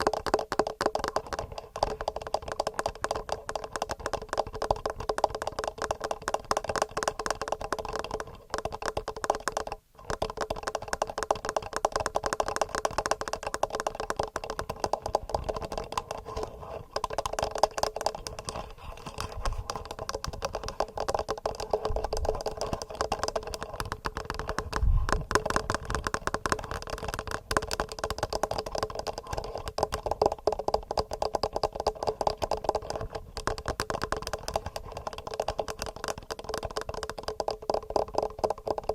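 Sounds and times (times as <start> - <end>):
fingernails tapping on recorder: 0.0 - 38.9.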